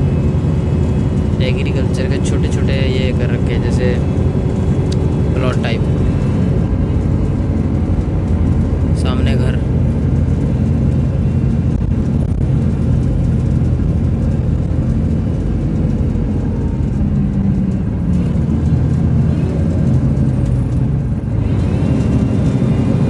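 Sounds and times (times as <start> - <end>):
vehicle engine and tyre rumble: 0.0 - 23.0.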